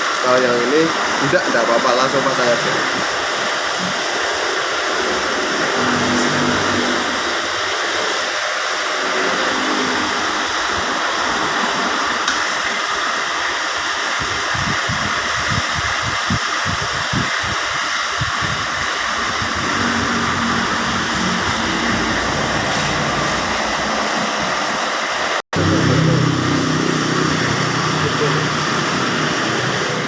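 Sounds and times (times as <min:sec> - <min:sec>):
fan-like hiss: 0:00.0 - 0:30.0.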